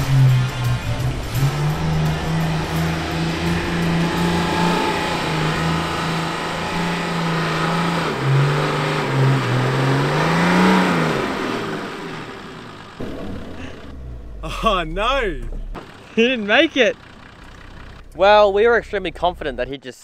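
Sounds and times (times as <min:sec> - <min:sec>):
diesel engine working hard: 0:00.0 - 0:19.8.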